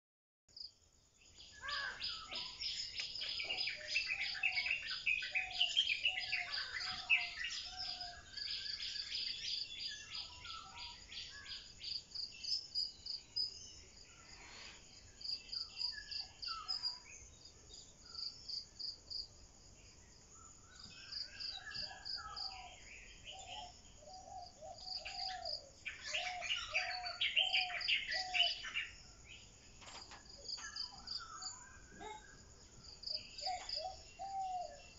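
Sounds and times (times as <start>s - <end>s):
insect trill: 0.6s - 34.9s
birds chirping and singing: 1.3s - 18.8s, 19.9s - 34.9s.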